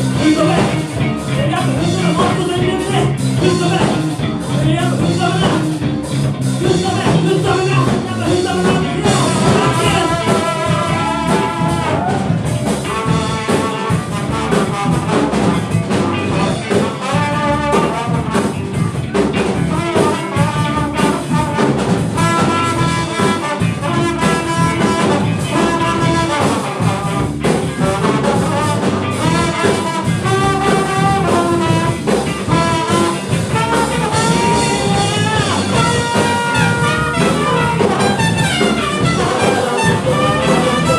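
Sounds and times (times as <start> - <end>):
steady drum beat: 0.0 - 40.9
brass section playing: 6.6 - 40.9.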